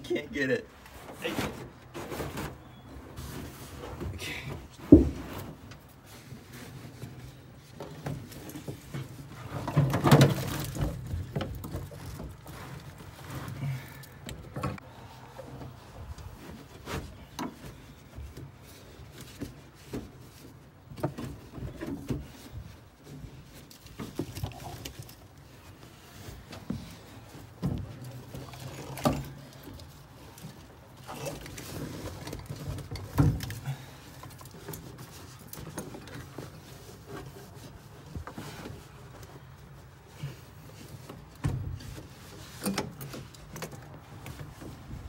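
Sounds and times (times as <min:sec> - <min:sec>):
carpet rustling and shuffling: 0:00.7 - 0:24.2, 0:29.4 - 0:45.0.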